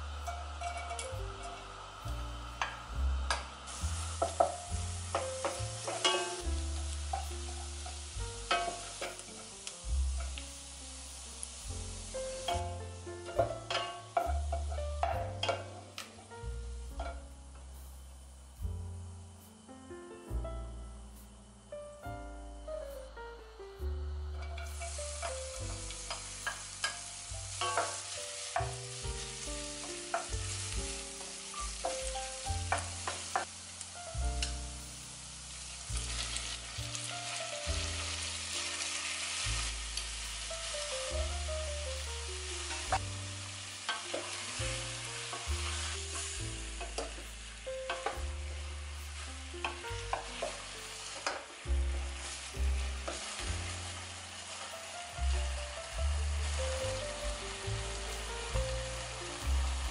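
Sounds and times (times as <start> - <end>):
background music with bass line: 0.0 - 59.9
food sizzling in hot oil: 0.0 - 59.9.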